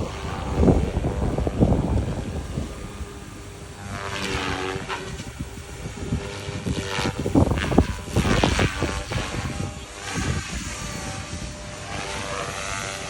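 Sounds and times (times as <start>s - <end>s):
model helicopter rotor whine: 0.0s - 13.0s.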